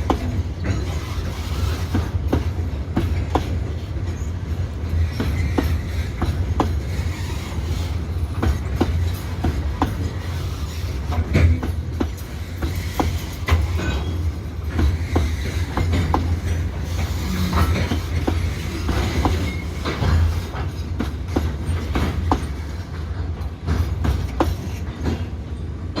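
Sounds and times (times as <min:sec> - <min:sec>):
freight train rumbling past: 0:00.0 - 0:26.0
wheels clacking over rail joints: 0:00.0 - 0:26.0.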